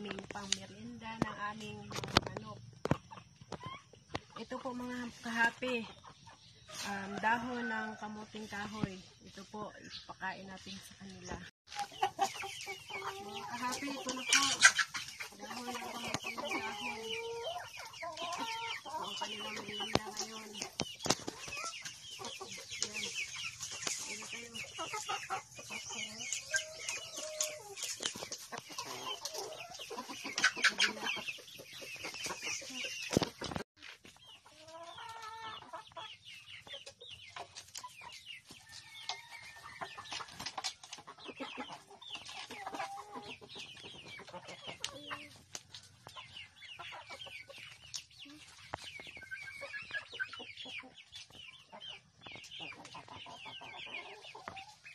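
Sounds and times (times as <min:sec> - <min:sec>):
chickens clucking: 0:00.0 - 0:54.9.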